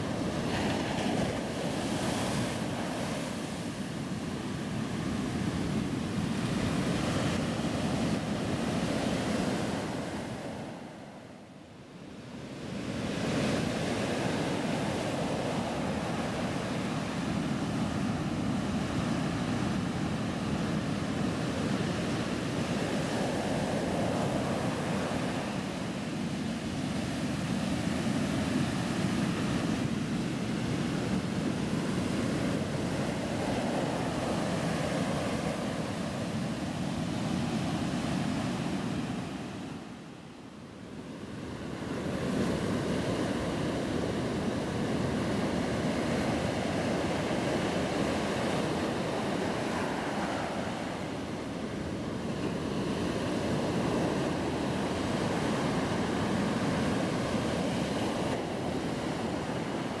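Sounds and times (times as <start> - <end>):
waves washing over beach: 0.0 - 60.0.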